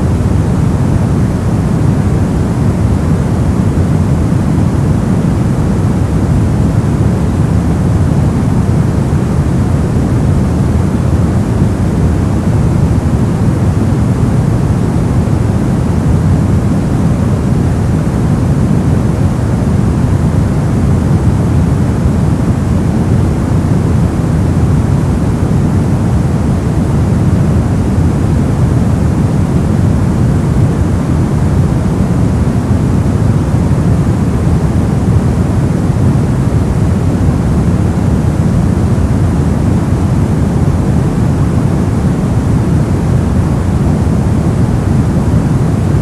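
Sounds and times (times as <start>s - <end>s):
brown noise rumbling hiss: 0.0s - 46.0s.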